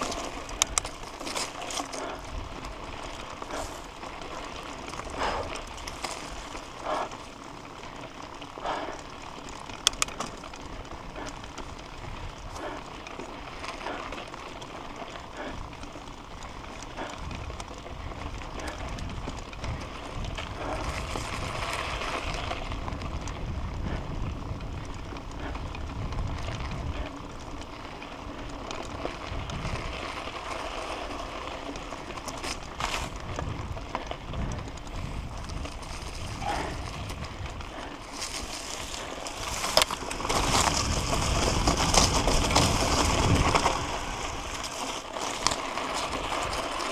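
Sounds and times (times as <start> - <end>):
bike tyres rolling on dirt: 0.0 - 46.9.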